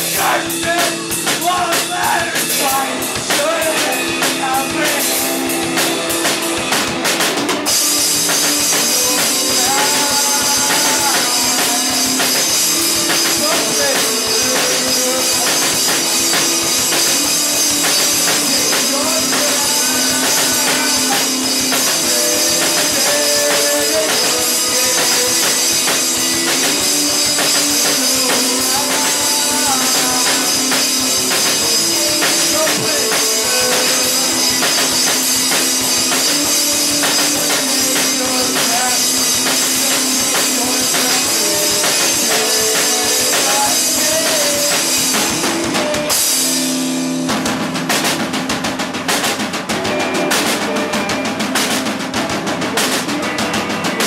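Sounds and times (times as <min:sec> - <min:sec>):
held guitar notes: 0:00.0 - 0:54.0
high percussion: 0:00.0 - 0:54.0
rock band playing live: 0:00.0 - 0:54.0.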